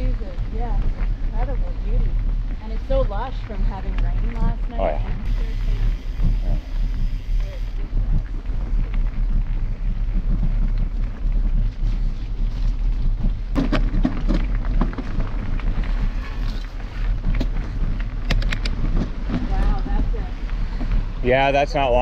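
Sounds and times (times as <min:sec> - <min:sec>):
bike clicks and rattles: 0:00.0 - 0:22.0
tyres rolling on gravel: 0:00.0 - 0:22.0
wind buffeting microphone: 0:00.0 - 0:22.0.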